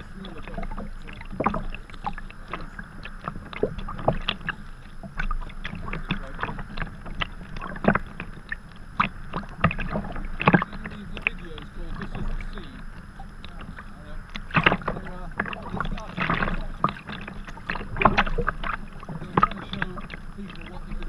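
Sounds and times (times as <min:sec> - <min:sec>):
paddle splashing: 0:00.0 - 0:21.0
water slapping against hull: 0:00.0 - 0:21.0.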